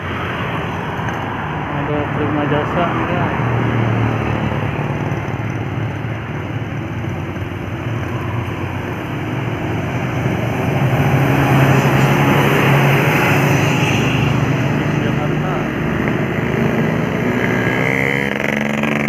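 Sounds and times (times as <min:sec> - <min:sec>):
bus engine driving past: 0:00.0 - 0:19.0.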